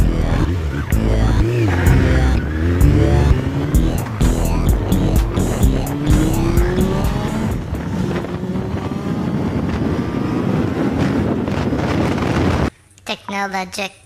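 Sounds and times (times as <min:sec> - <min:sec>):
motorcycle engine accelerating: 0:00.0 - 0:12.7
wind and road noise: 0:00.0 - 0:12.7.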